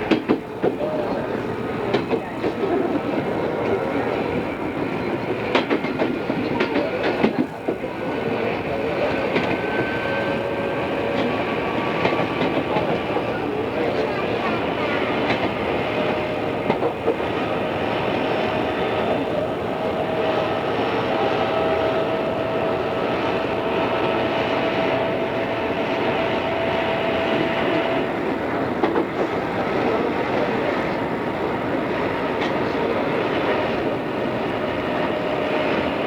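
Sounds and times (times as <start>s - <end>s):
electric train running on rails: 0.0s - 36.0s.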